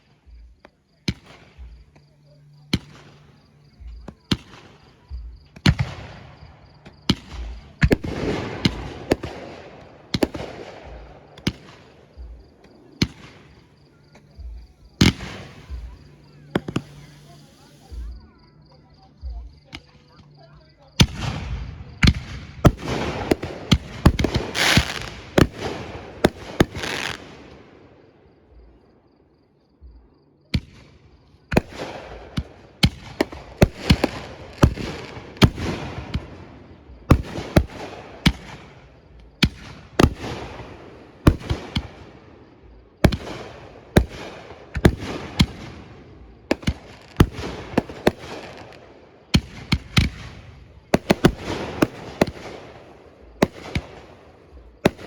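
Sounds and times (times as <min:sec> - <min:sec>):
fireworks bangs: 0:00.0 - 0:18.2, 0:21.0 - 0:27.8, 0:30.6 - 0:55.0
fireworks crackle: 0:00.0 - 0:18.2, 0:22.1 - 0:27.6, 0:31.6 - 0:42.2, 0:42.8 - 0:55.0.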